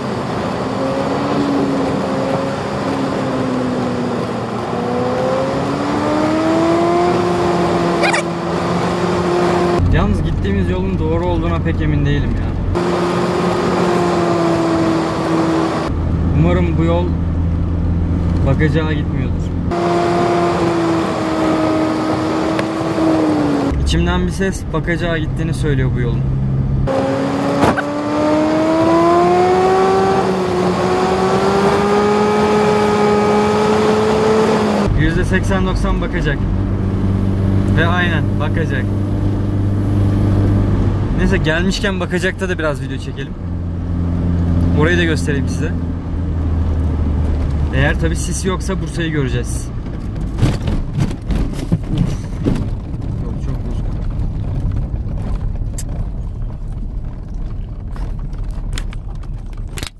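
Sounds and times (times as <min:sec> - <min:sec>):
car engine pulling: 0:00.0 - 0:59.9.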